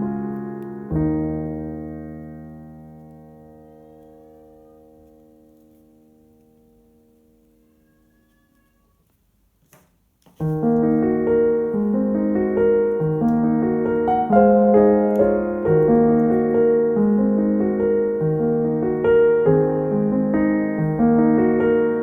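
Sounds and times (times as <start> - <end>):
gentle piano music: 0.0 - 8.8, 10.4 - 22.0.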